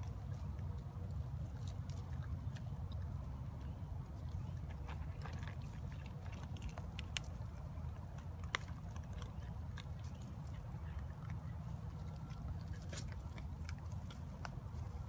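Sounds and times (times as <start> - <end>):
raccoons rustling in dry leaves: 0.0 - 15.0
steady low hum: 0.0 - 15.0.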